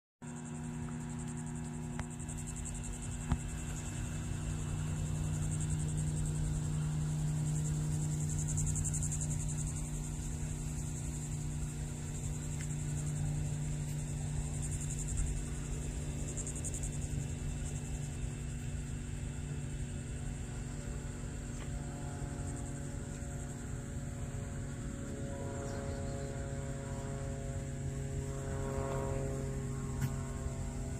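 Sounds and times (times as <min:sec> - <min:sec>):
crickets chirping: 0:00.2 - 0:30.9
propeller plane droning overhead: 0:00.2 - 0:30.9.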